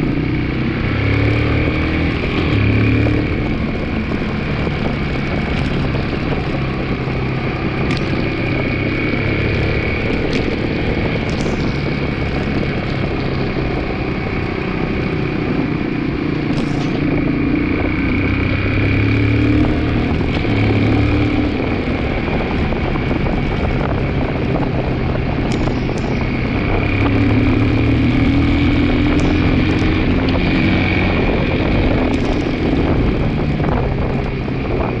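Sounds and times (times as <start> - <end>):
outboard engine running: 2.3 - 35.0.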